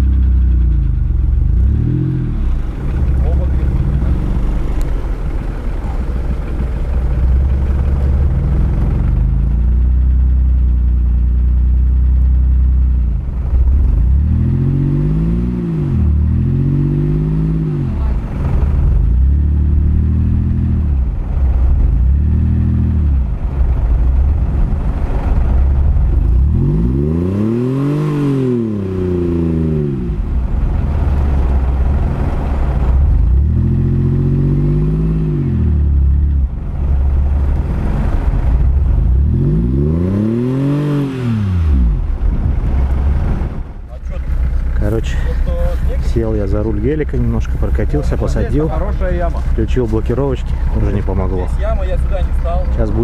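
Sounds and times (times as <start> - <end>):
suv engine revving: 0.0 - 53.0.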